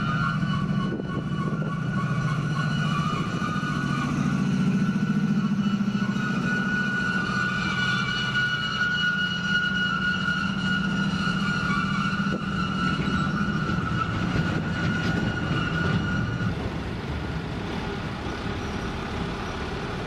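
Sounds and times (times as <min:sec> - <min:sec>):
high-pitched squeal: 0:00.0 - 0:20.0
train rumble: 0:00.0 - 0:20.0.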